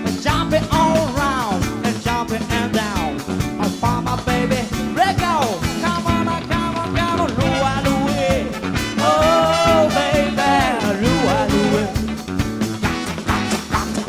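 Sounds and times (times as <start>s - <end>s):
live band playing upbeat music: 0.0s - 14.0s.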